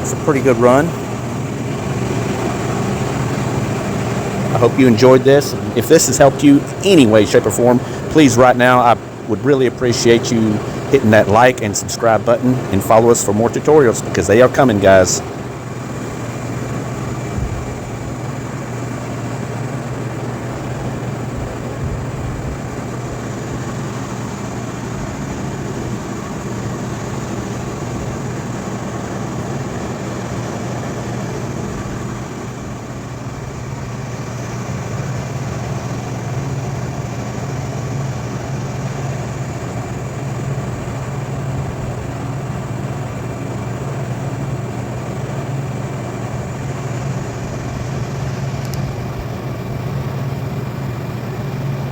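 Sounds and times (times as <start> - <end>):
machine humming: 0.0 - 51.9.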